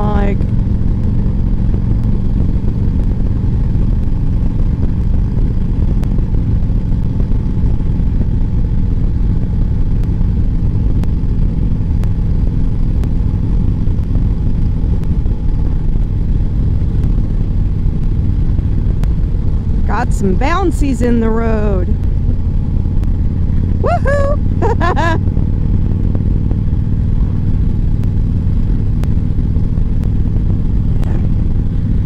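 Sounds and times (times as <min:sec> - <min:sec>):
motorcycle engine running: 0:00.0 - 0:32.0
wind rumble on microphone: 0:00.0 - 0:32.0.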